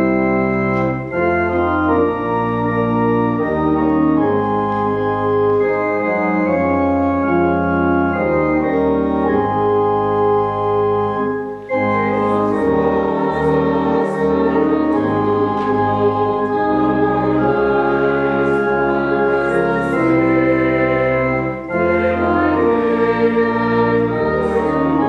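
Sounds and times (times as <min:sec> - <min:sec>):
organ playing held chords: 0:00.0 - 0:25.0.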